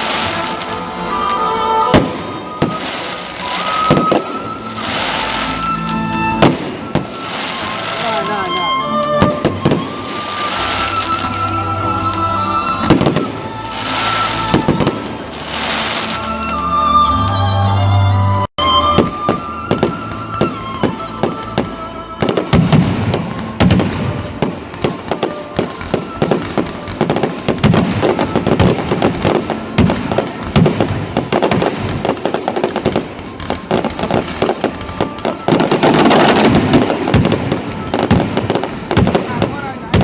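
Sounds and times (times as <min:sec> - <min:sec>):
fireworks bangs and crackles: 0:00.0 - 0:16.6, 0:18.6 - 0:40.0.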